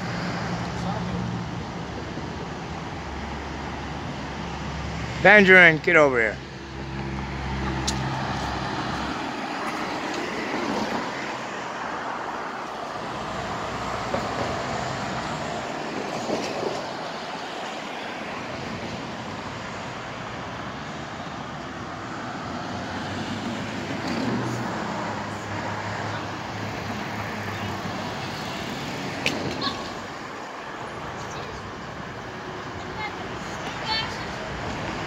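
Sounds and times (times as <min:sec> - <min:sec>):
passing vehicles rushing: 0:00.0 - 0:35.0.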